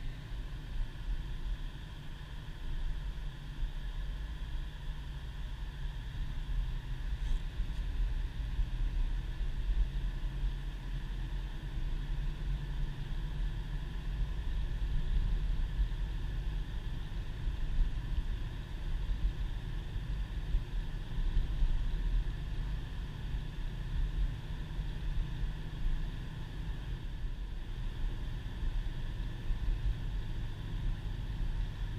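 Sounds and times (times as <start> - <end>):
engine and tyre rumble: 0.0 - 31.9.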